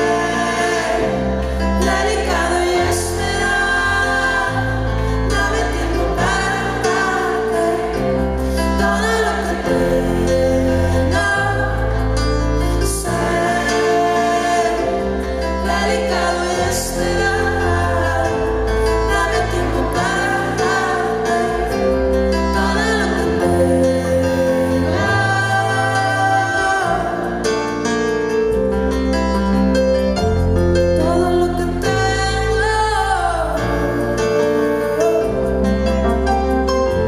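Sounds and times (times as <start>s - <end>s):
woman singing: 0.0s - 27.5s, 30.9s - 36.4s
electric keyboard: 0.0s - 37.0s.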